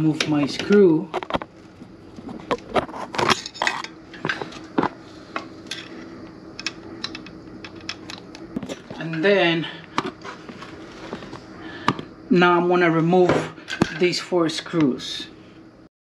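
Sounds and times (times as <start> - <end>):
faint hum: 0.0 - 15.9.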